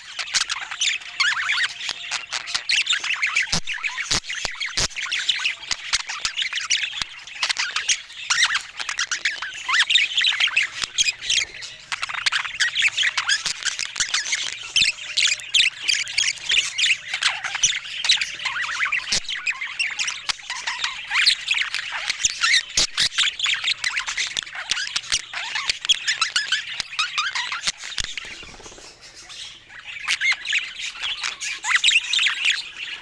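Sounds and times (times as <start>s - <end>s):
budgerigars chattering and warbling: 0.0s - 33.0s.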